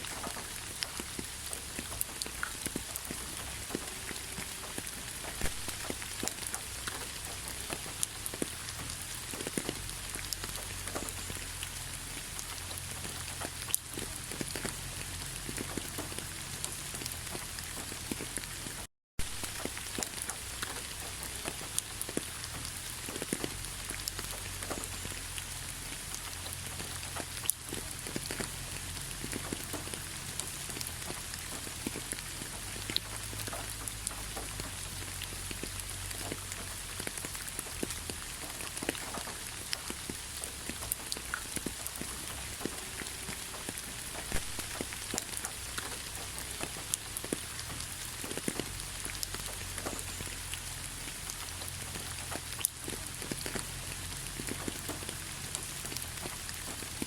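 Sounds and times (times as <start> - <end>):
raindrops ticking on surfaces: 0.0 - 57.0
steady rain: 0.0 - 57.0.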